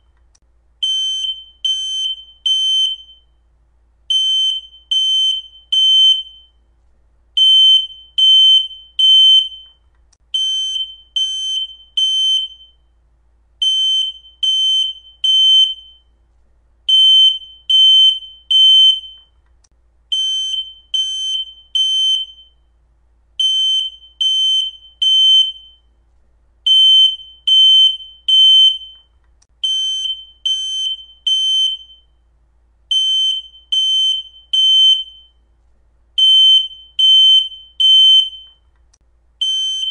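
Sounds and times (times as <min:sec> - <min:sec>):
smoke alarm beeping: 0:00.8 - 0:03.4, 0:04.1 - 0:06.7, 0:07.4 - 0:12.9, 0:13.6 - 0:16.2, 0:16.9 - 0:19.4, 0:20.1 - 0:22.7, 0:23.4 - 0:26.0, 0:26.7 - 0:32.2, 0:32.9 - 0:35.5, 0:36.2 - 0:38.7, 0:39.4 - 0:39.9.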